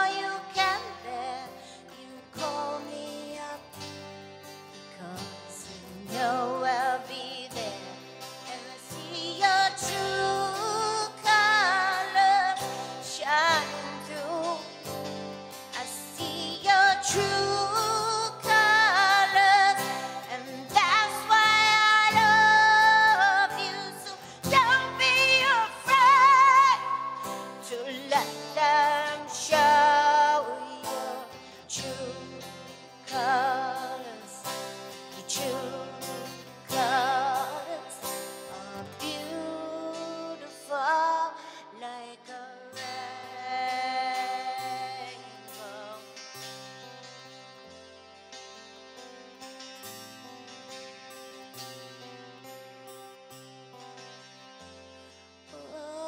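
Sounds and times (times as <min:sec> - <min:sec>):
woman singing with vibrato: 0:00.0 - 0:04.2, 0:04.8 - 0:46.8, 0:55.5 - 0:56.0
acoustic guitar accompaniment: 0:00.0 - 0:56.0.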